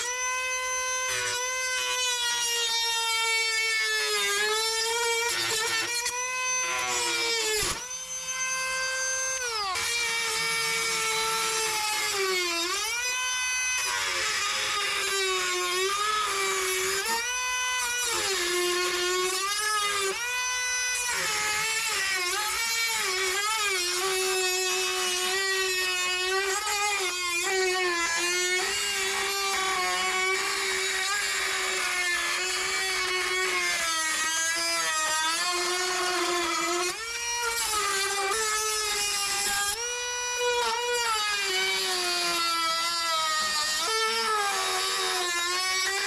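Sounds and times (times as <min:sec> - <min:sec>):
power tool motor whining: 0:00.0 - 0:46.0.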